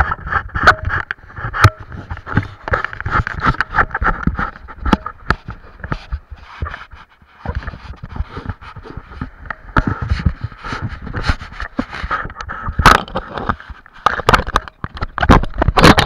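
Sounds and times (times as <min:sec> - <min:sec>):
camera handling scraping and knocking: 0:00.0 - 0:16.0.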